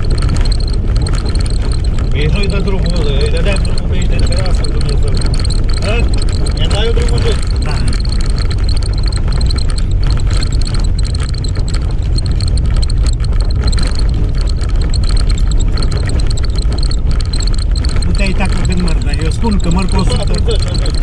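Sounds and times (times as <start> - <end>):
engine and road noise: 0.0 - 21.0
vehicle rattles and knocks: 0.0 - 21.0.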